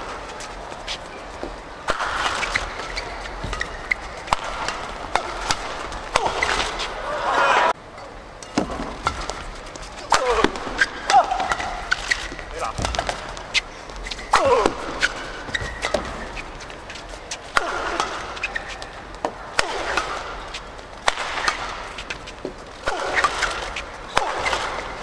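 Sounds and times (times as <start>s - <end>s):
shoes squeaking on court: 0.0s - 7.1s, 8.7s - 25.0s
badminton racket hitting shuttlecock: 1.9s - 7.0s, 8.5s - 16.7s, 17.3s - 25.0s.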